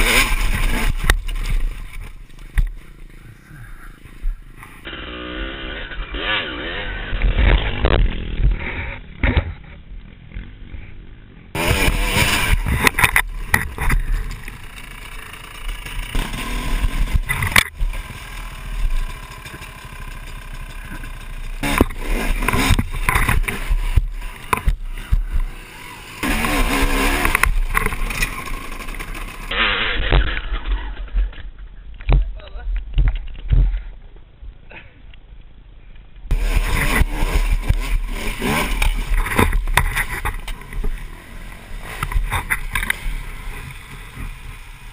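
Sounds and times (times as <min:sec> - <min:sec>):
dirt bike engine revving: 0:00.0 - 0:31.0, 0:36.3 - 0:44.9.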